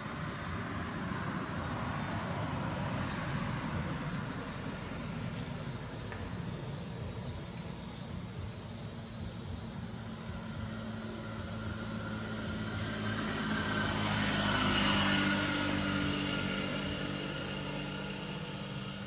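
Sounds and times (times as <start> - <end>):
passing vehicle engine: 0.0 - 19.0.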